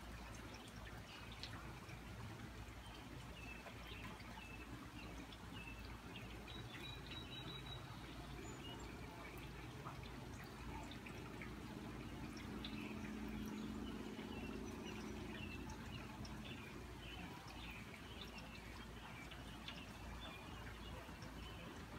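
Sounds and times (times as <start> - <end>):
rainwater dripping and trickling: 0.0 - 21.9.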